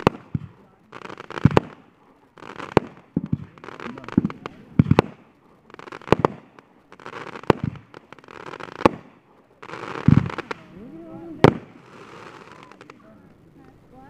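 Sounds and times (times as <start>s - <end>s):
fireworks bangs: 0.0s - 13.6s
fireworks crackling hiss: 0.0s - 14.0s.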